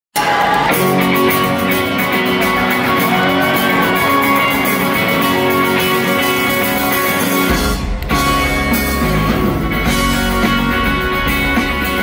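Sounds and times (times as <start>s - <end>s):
live rock band with guitars: 0.2s - 12.0s.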